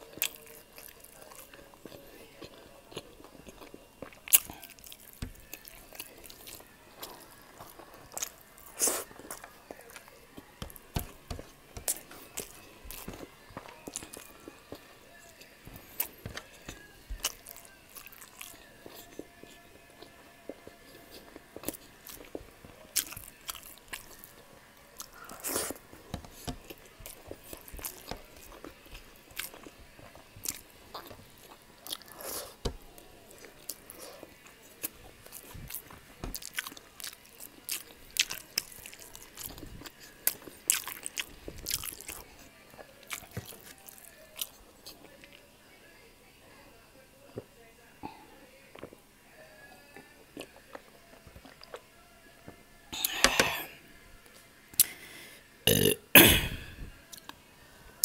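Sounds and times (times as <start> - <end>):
person chewing food: 0.0 - 45.4, 50.2 - 51.8.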